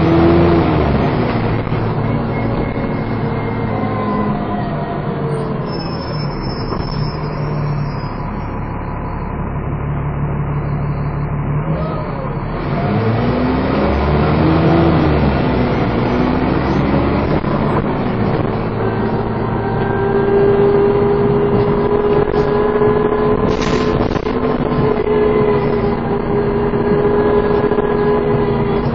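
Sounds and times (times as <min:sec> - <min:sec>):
bus engine pulling under load: 0:00.0 - 0:28.9
whining engine note: 0:00.0 - 0:28.9.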